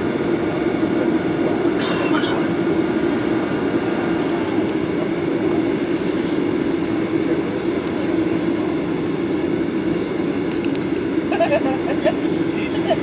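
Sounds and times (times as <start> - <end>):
airplane cabin rumble taxiing: 0.0 - 13.0
jet engines at low thrust: 0.0 - 13.0.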